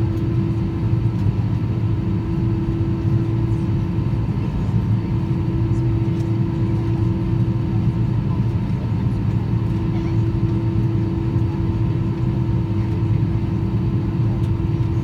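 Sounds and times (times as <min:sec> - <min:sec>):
jet engines idling hum: 0:00.0 - 0:15.0.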